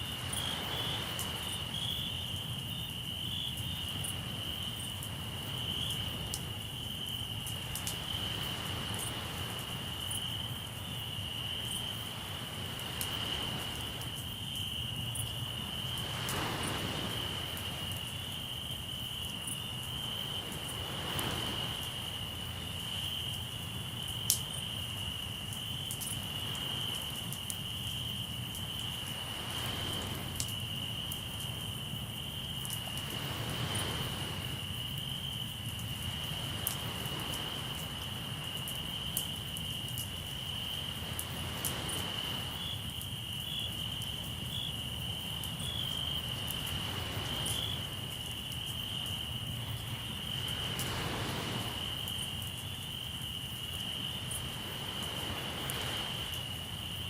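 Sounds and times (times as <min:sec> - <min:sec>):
crickets trilling: 0:00.0 - 0:57.0
waves washing onto shore: 0:00.0 - 0:57.0.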